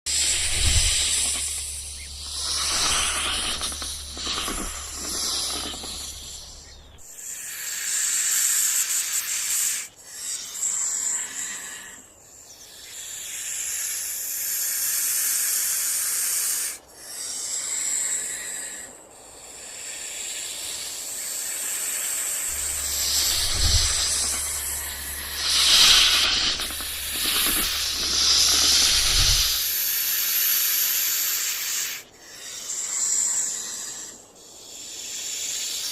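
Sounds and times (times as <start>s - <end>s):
rattlesnake rattle buzzing: 0.1s - 35.9s.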